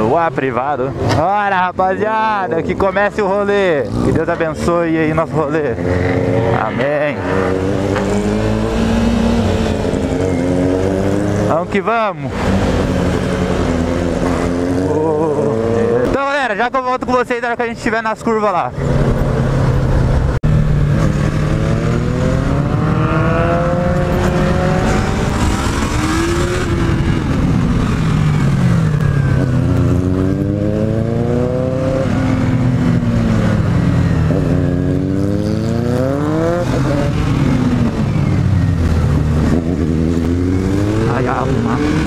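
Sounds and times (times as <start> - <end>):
motorcycle engine accelerating: 3.5 - 16.2, 18.8 - 42.0.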